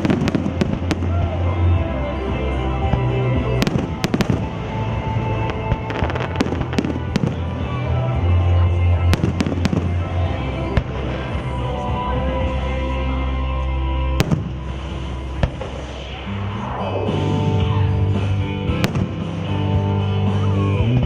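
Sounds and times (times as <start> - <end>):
fireworks bangs and crackles: 0.0 - 12.7, 14.1 - 16.3, 17.2 - 21.0
music with heavy bass: 0.0 - 21.0.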